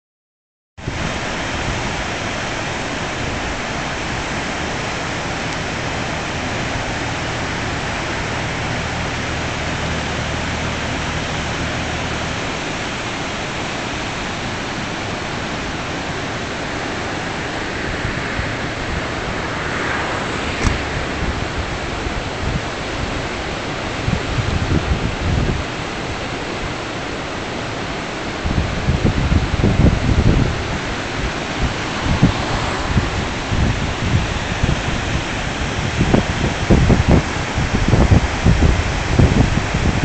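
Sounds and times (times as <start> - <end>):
river rushing through rapids: 0.8 - 40.0.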